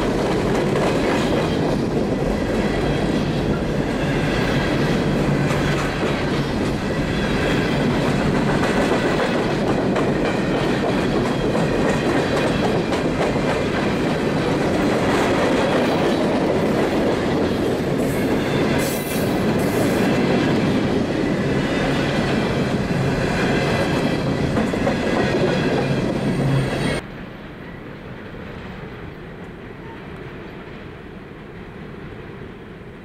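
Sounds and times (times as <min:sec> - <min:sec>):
distant train rumble: 0:00.0 - 0:33.0.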